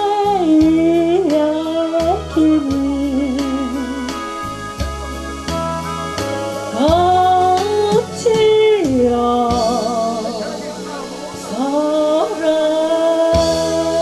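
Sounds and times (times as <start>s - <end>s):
person singing long sliding notes: 0.0s - 4.6s, 6.6s - 14.0s
instrumental accompaniment: 0.0s - 14.0s.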